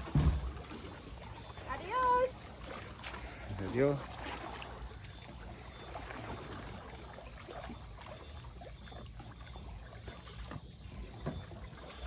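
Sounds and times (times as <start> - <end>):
paddle dipping into water: 0.0 - 12.0
water trickling and lapping: 0.0 - 12.0.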